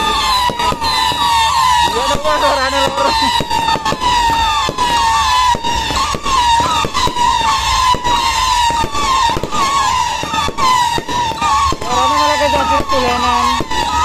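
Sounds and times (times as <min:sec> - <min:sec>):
fireworks bangs and crackles: 0:00.0 - 0:14.0
high wavering whistle: 0:00.0 - 0:14.0.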